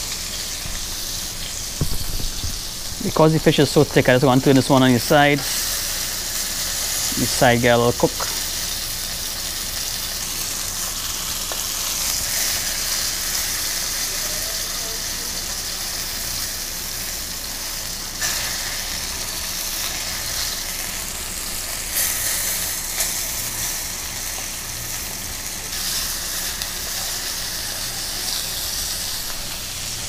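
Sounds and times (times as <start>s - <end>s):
fish sizzling in oil: 0.0s - 30.0s.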